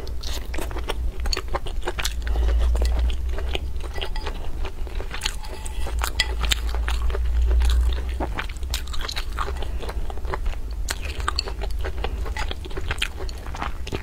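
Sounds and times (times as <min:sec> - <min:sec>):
crunchy chewing: 0:00.0 - 0:14.0
steady low hum: 0:00.0 - 0:14.0.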